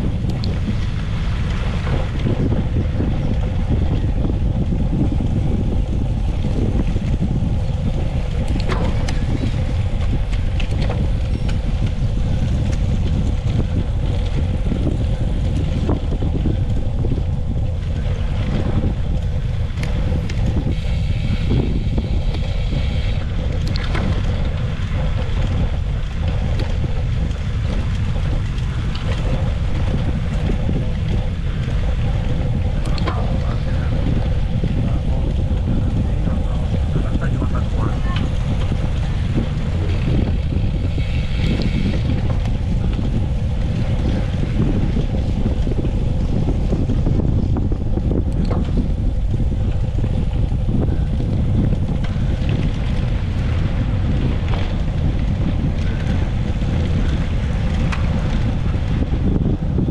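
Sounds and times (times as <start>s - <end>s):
wind rush on microphone: 0.0s - 59.9s.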